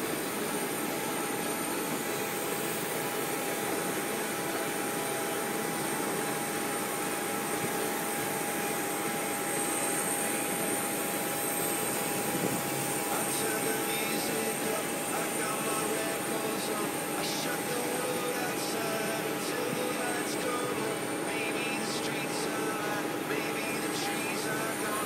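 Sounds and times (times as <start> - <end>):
high turbine whine: 0.0 - 25.0
jet turbine roar: 0.0 - 25.0.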